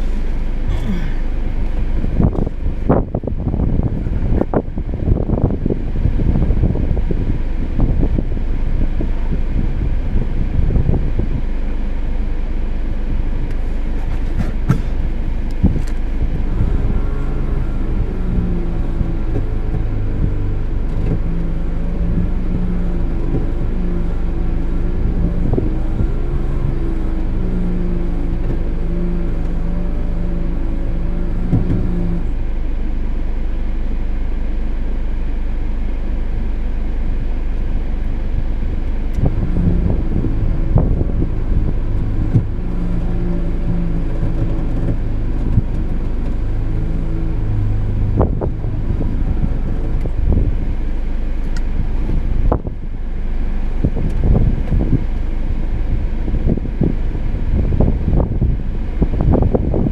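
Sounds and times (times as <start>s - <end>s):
low hum: 0.0s - 59.9s
vehicle engine rumbling: 0.0s - 59.9s.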